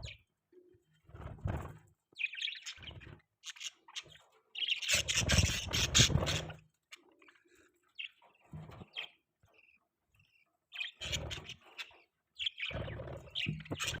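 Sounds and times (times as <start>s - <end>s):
budgerigars chirping: 2.2s - 14.0s.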